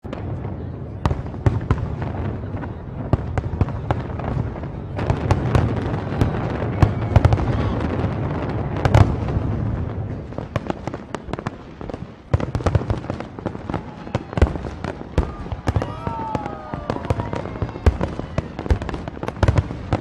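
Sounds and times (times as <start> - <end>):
fireworks cracks and bangs: 0.0 - 20.0.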